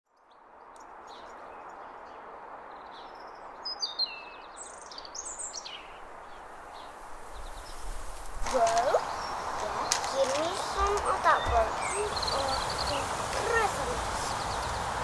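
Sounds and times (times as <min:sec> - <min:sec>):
songbird singing: 0:00.1 - 0:15.0
outdoor background hiss: 0:00.2 - 0:15.0.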